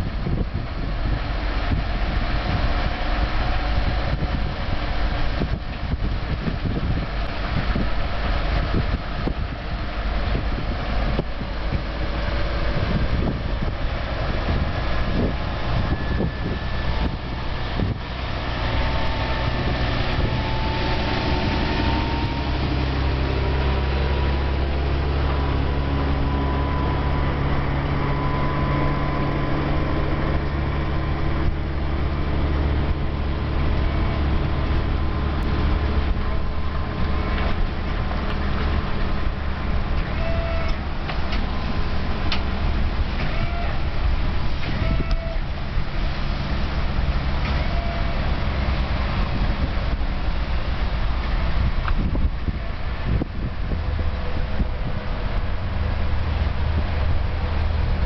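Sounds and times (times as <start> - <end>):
large vehicle engine running: 0.0 - 58.0.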